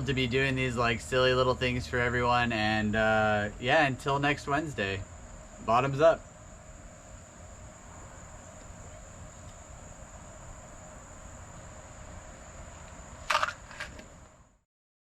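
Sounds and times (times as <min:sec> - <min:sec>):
crickets trilling: 0:00.0 - 0:14.6.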